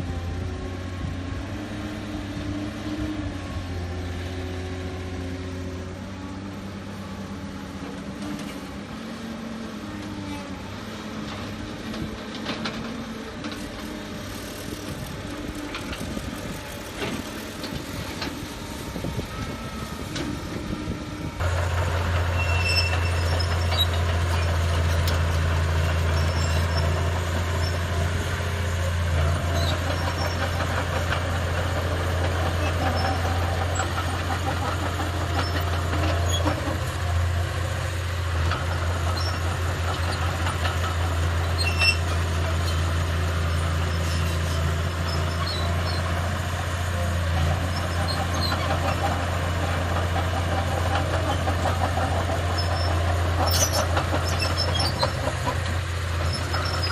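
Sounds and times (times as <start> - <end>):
diesel engine drone: 0.0 - 56.9.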